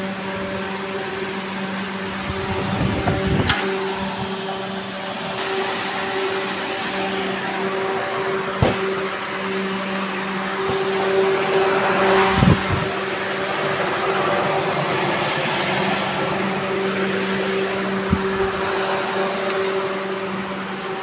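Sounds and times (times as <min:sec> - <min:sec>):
machine motor humming and hissing: 0:00.0 - 0:21.0.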